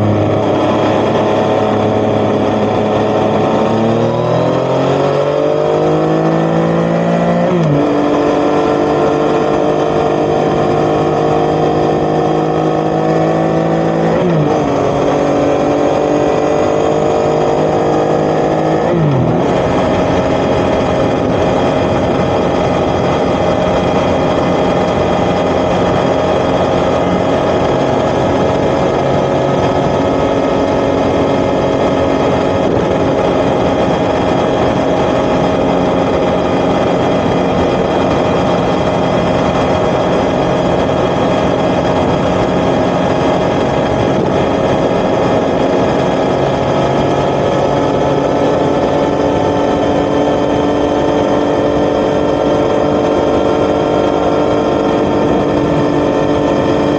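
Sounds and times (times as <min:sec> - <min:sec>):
motorcycle engine accelerating: 0:00.0 - 0:56.9
wind noise: 0:00.0 - 0:56.9.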